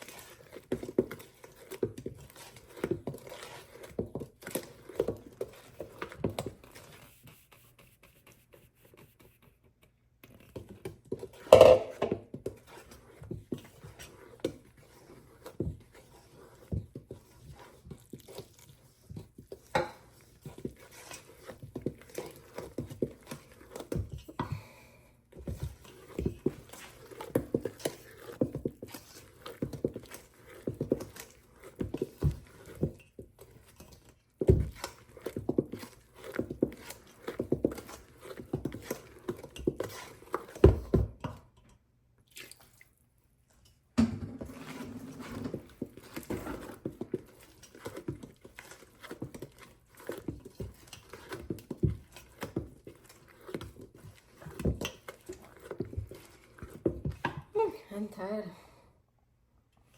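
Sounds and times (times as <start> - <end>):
spatula scraping a bowl: 0.0 - 24.6, 25.3 - 41.1, 44.0 - 57.4.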